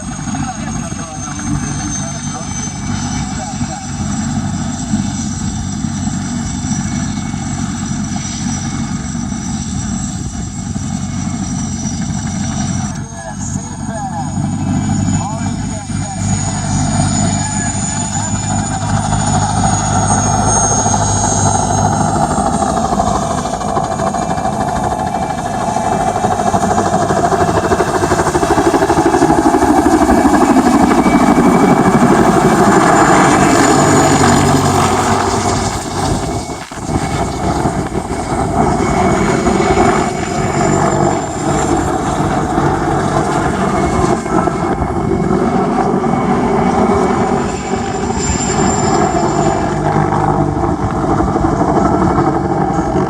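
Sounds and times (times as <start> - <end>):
helicopter engines and rotor: 0.0 - 53.0.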